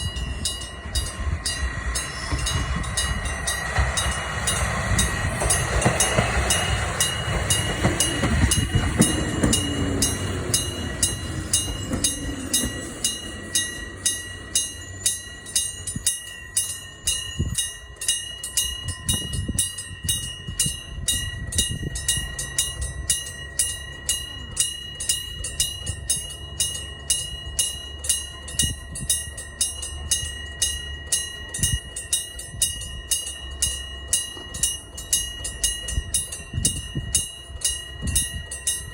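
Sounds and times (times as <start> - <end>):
level crossing bell clanging: 0.0 - 38.9
train rumbling over crossing: 0.0 - 38.9.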